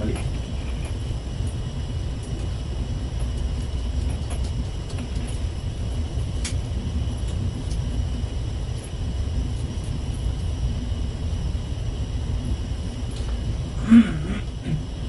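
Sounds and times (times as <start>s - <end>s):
faint high whine: 0.0s - 15.0s
low machinery rumble: 0.0s - 15.0s.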